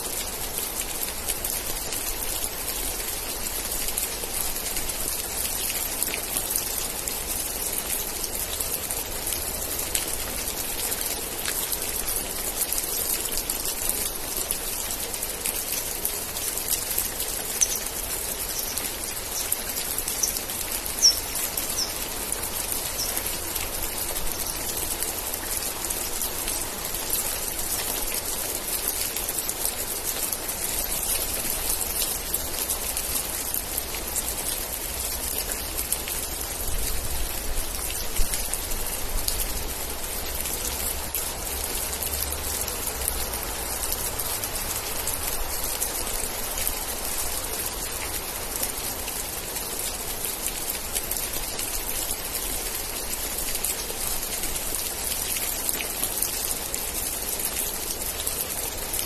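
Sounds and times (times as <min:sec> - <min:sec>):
rain drops pattering: 0:00.0 - 0:59.0.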